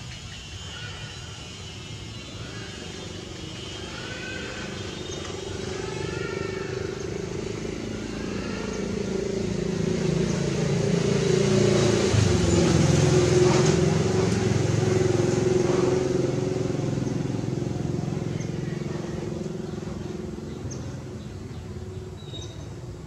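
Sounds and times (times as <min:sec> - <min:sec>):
vehicle engine passing by: 0:01.8 - 0:23.0.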